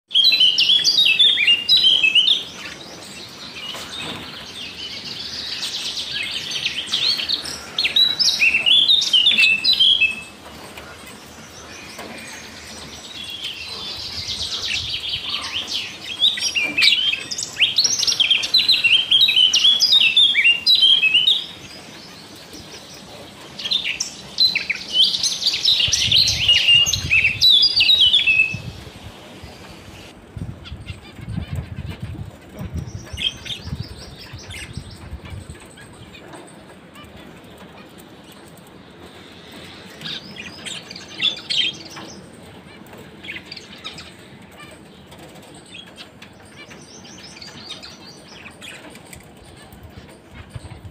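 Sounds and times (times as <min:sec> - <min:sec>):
finches and budgerigars chirping: 0:00.1 - 0:50.9.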